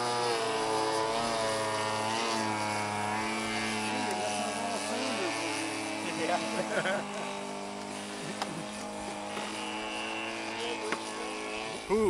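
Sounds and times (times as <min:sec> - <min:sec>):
model airplane engine buzzing: 0:00.0 - 0:12.0.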